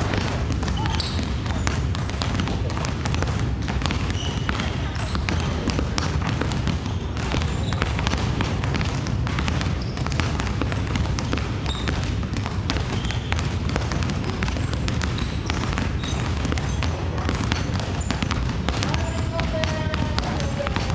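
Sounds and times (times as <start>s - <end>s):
basketballs bouncing on hardwood floor: 0.0s - 20.9s.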